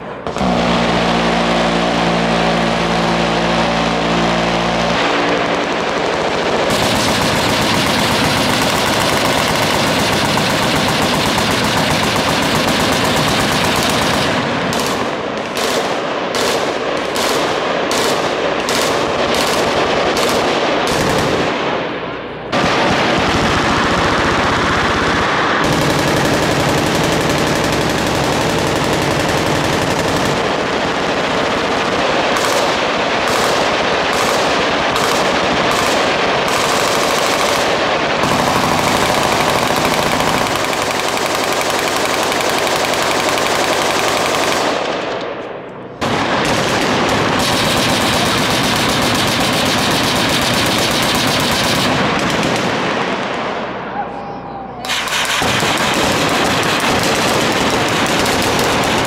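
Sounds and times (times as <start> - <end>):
machine guns firing: 0.0 - 53.8, 54.8 - 59.0.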